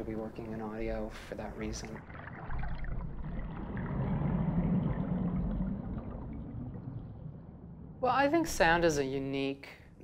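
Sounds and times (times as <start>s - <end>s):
low water-like noise: 0.0s - 9.3s.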